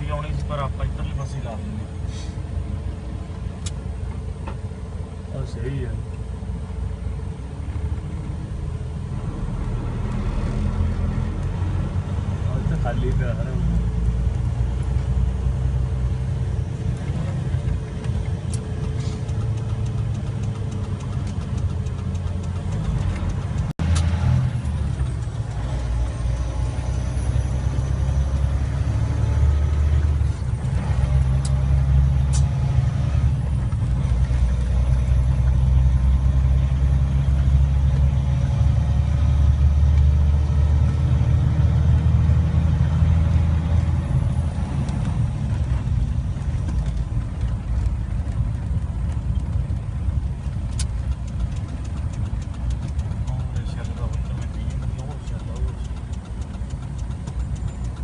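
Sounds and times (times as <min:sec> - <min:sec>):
truck engine humming: 0:00.0 - 0:58.0.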